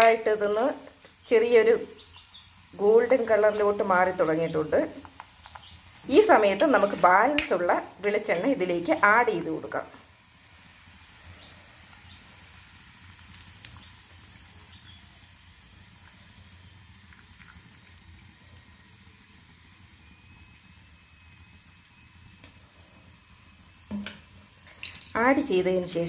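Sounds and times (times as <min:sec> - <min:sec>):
oil sizzling in a pan: 0:00.0 - 0:26.0.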